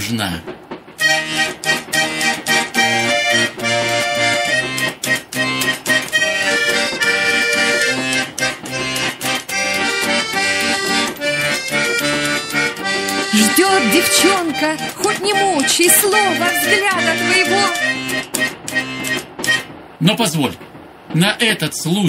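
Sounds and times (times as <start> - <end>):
button accordion folk tune: 1.0 - 19.8.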